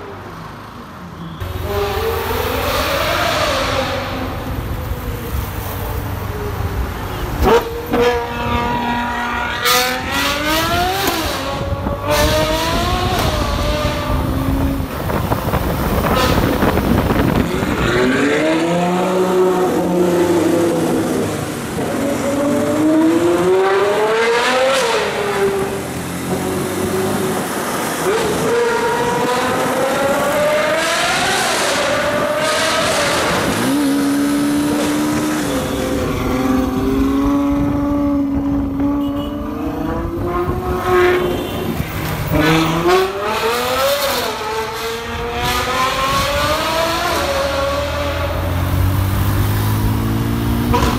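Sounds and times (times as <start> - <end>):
car engine revving: 7.4 - 50.9.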